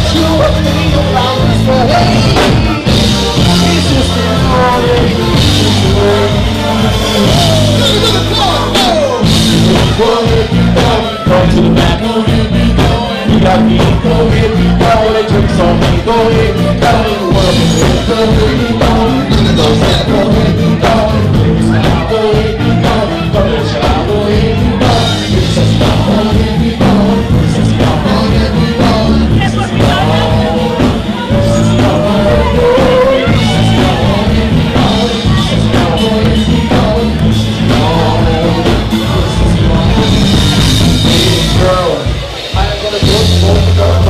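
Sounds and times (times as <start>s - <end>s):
person singing: 0.0s - 44.0s.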